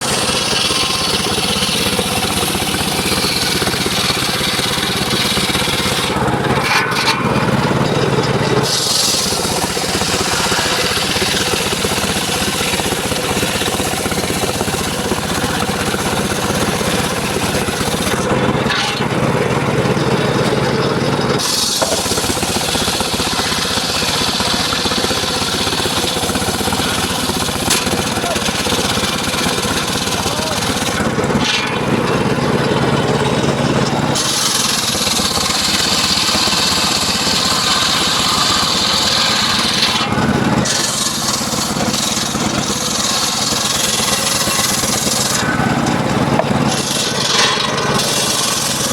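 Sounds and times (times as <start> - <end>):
circular sawmill cutting wood: 0.0 - 48.9.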